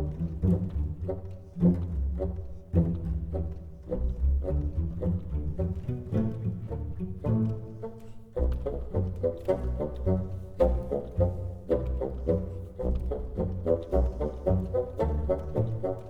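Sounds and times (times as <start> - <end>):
deep string-like instrumental music: 0.0 - 16.0.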